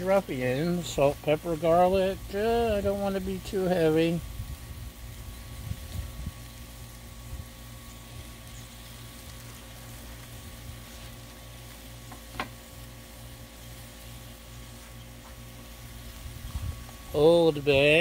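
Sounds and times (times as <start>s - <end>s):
low steady hum: 0.0s - 18.0s
vegetables sizzling on griddle: 0.0s - 18.0s.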